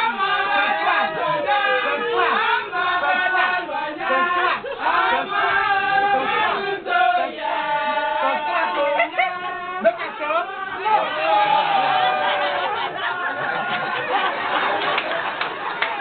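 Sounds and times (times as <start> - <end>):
crowd shouting and chanting: 0.0 - 16.0.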